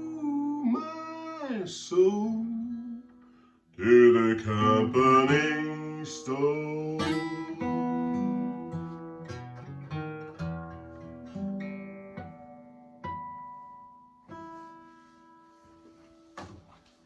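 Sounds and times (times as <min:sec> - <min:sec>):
acoustic guitar notes and chords: 0:00.0 - 0:17.0.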